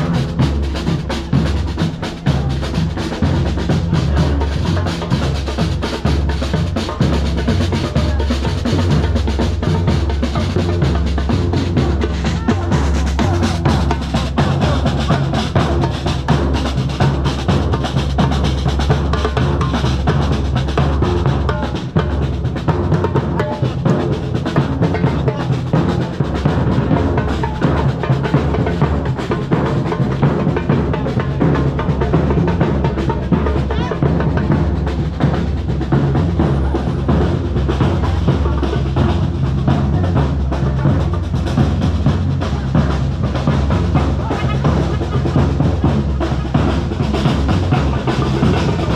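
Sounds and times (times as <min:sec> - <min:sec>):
marching bass drums beating: 0:00.0 - 0:48.9.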